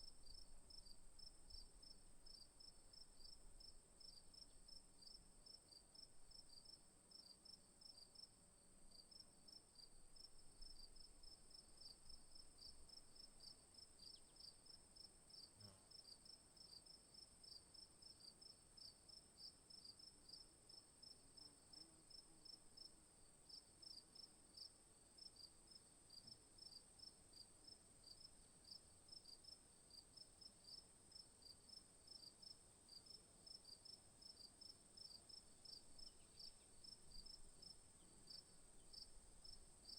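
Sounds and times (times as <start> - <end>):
insect chirps: 0.0 - 39.9.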